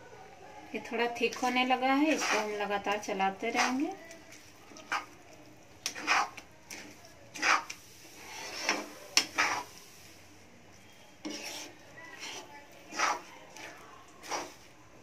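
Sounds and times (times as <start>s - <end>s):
metal spatula scraping a pan: 1.2s - 4.0s, 4.7s - 5.2s, 5.8s - 14.8s.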